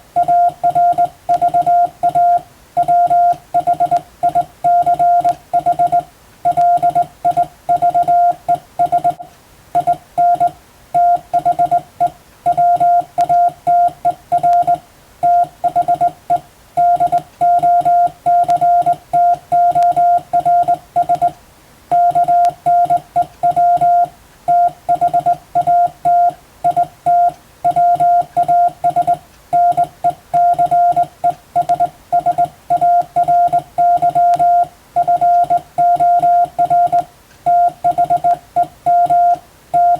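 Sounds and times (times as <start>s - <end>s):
morse code beeps: 0.2s - 39.9s.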